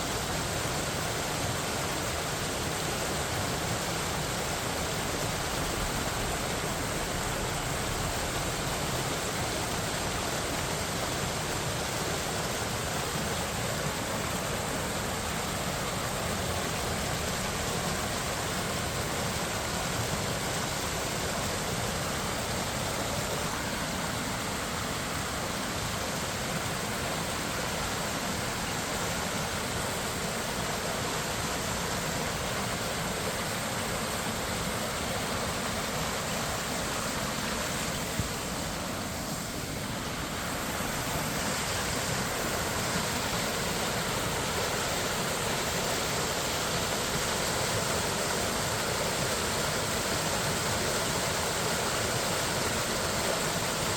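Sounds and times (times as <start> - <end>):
flowing creek water: 0.0 - 53.9.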